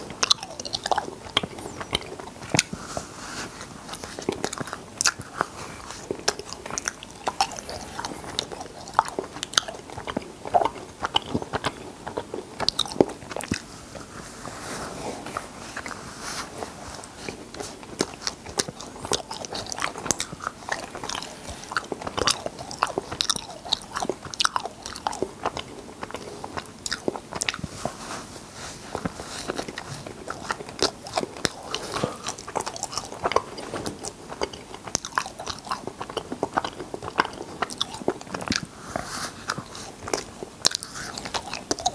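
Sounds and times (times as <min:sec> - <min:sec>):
mouth clicks and smacks chewing: 0:00.0 - 0:14.1, 0:16.6 - 0:28.0, 0:28.9 - 0:41.9.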